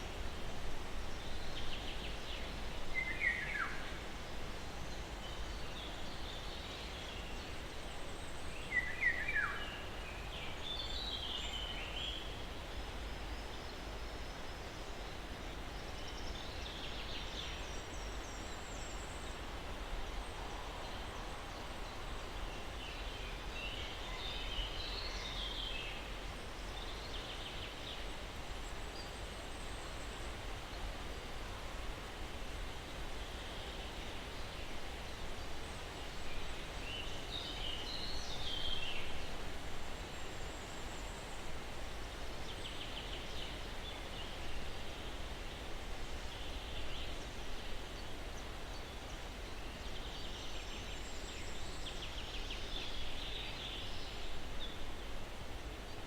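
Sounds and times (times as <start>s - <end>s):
breeze through pine trees: 0.0s - 56.0s.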